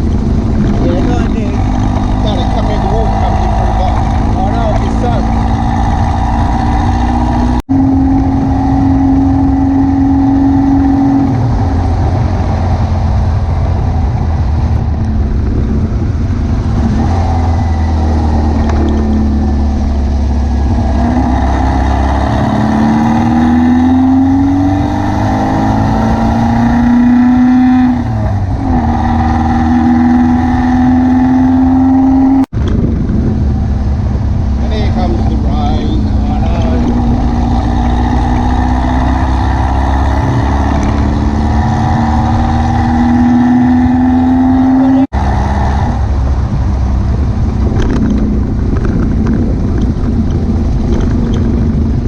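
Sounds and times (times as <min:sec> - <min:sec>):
buggy engine accelerating: 0:00.0 - 0:52.0
road noise: 0:00.0 - 0:52.0
wind: 0:00.0 - 0:52.0.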